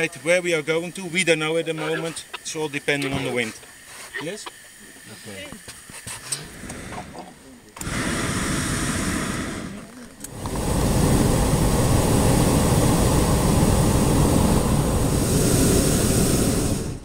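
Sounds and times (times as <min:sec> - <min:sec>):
propane burner roaring: 0:00.0 - 0:17.0.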